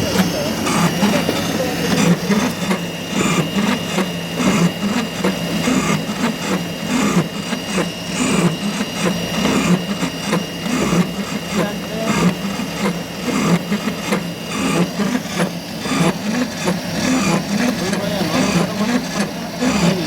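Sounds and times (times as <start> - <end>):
cutter scraping and clicking: 0.0 - 20.0
motor hum: 0.0 - 20.0.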